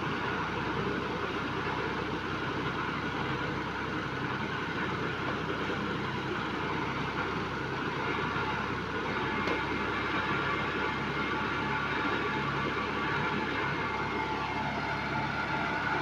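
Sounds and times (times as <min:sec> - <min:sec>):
engine droning steadily: 0:00.0 - 0:16.0.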